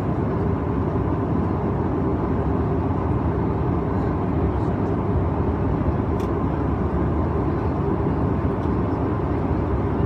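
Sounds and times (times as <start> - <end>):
jet cabin rumble: 0.0 - 10.0.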